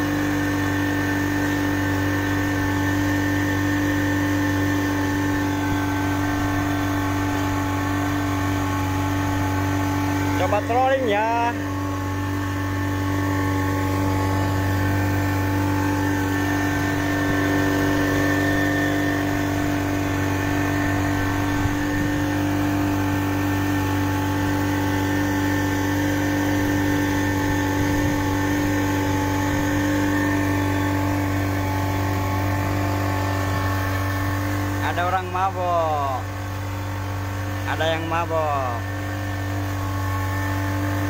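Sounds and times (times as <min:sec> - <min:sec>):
outboard motor droning: 0:00.0 - 0:41.0.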